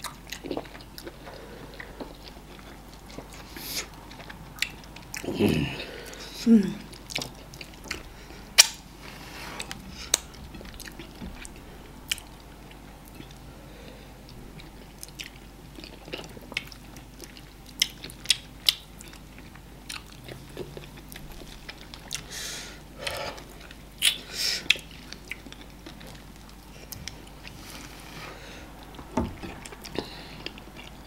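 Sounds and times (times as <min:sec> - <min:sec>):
chewing with wet clicks and smacks: 0:00.0 - 0:05.3, 0:06.8 - 0:08.9, 0:09.6 - 0:13.5, 0:14.2 - 0:22.3, 0:23.4 - 0:27.5, 0:28.8 - 0:31.0.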